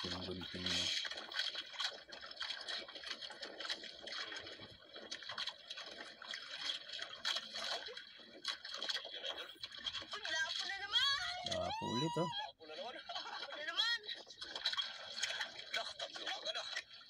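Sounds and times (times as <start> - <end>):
water lapping against a boat hull: 0.0 - 17.0.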